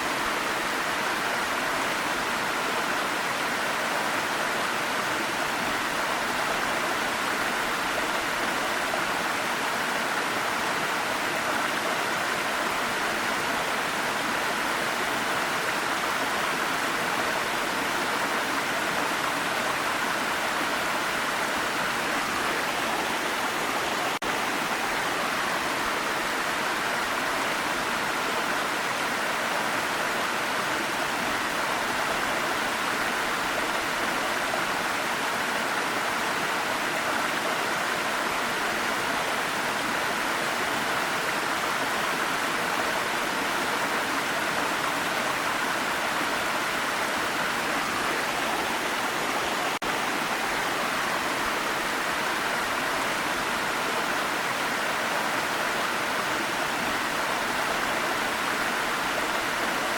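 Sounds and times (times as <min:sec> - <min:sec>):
waterfall water rushing: 0:00.0 - 0:59.9.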